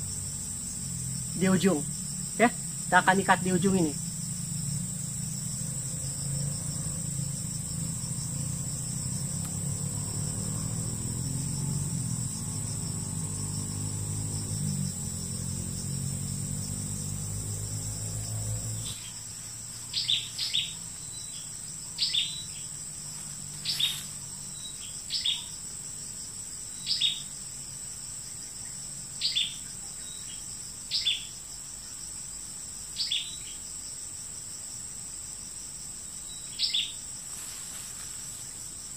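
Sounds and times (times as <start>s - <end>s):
crickets droning: 0.0s - 38.9s.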